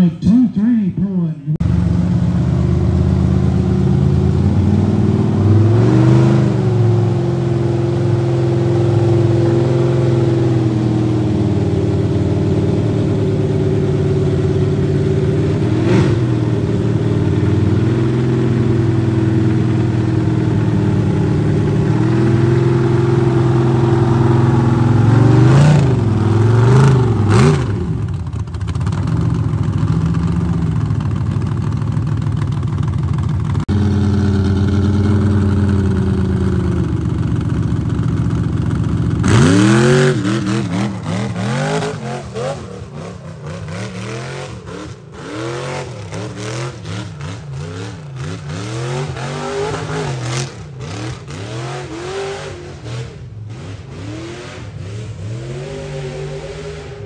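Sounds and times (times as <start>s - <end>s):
engine throttle blips: 0.0s - 57.0s
buggy engine running: 1.6s - 57.0s.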